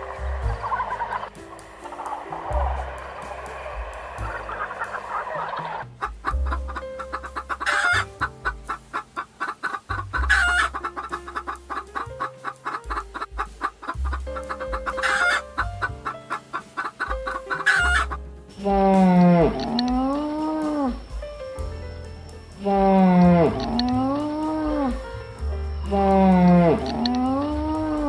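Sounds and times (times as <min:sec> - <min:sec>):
chickens clucking: 0:00.0 - 0:21.1, 0:22.4 - 0:25.0, 0:25.7 - 0:28.0
music with steady beat and bass: 0:00.0 - 0:28.0.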